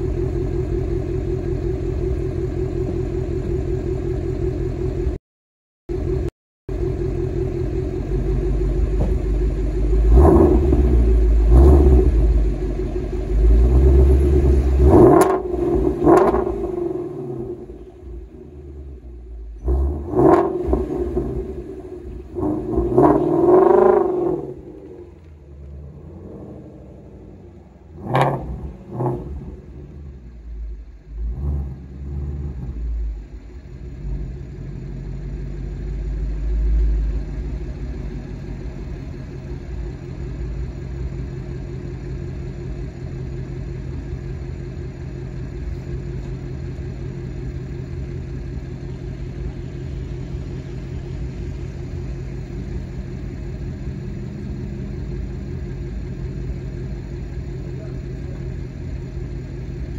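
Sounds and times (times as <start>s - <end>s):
car exhaust revving and idling: 0.0s - 5.2s, 5.9s - 59.9s.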